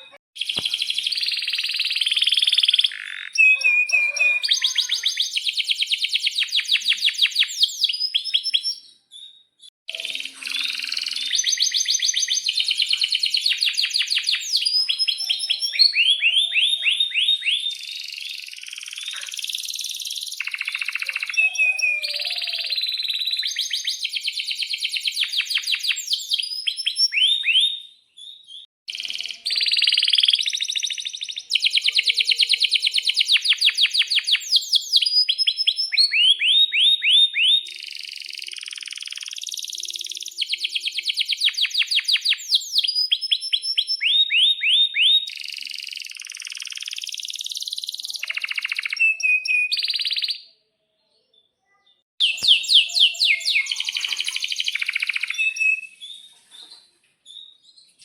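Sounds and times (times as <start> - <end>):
canary singing trills: 0.0 - 50.7, 52.2 - 56.7.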